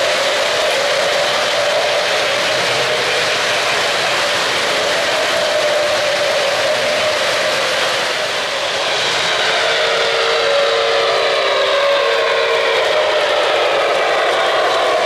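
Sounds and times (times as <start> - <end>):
model steam whistle chord: 0.0 - 15.0
model trains rolling on track: 0.0 - 15.0.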